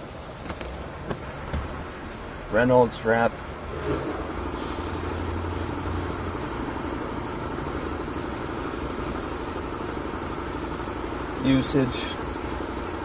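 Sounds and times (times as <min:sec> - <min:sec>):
engine hum and rumble: 0:00.0 - 0:13.0.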